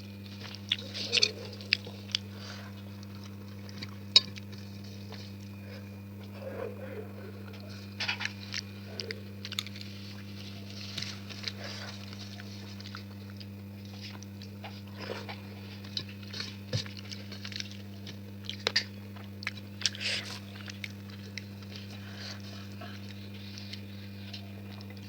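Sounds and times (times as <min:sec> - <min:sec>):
steady low hum: 0:00.0 - 0:25.0
person chewing and biting food: 0:00.2 - 0:06.4, 0:07.5 - 0:25.0.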